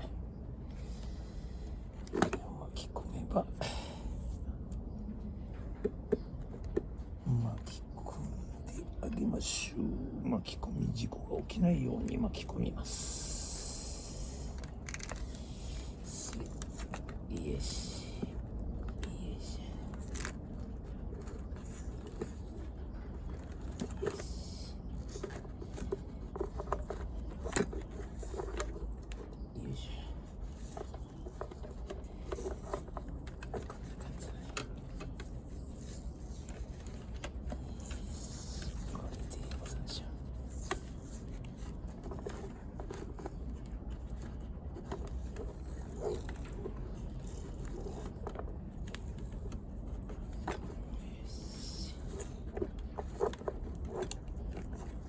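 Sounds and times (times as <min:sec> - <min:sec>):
light clicks and scrapes: 0:00.0 - 0:09.2, 0:11.3 - 0:55.0
steady low hum: 0:00.0 - 0:55.0.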